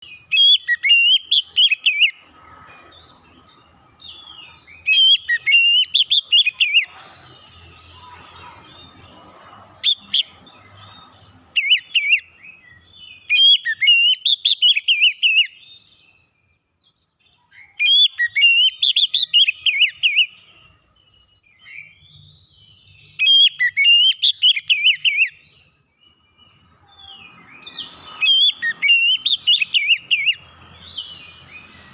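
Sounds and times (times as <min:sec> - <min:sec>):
bird singing whistles and trills: 0:00.0 - 0:31.9.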